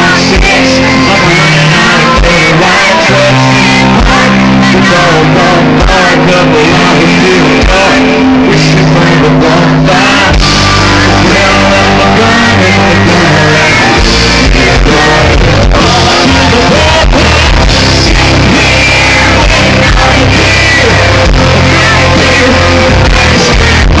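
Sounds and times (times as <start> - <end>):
live country-rock band: 0.0 - 24.0
person singing: 0.0 - 24.0.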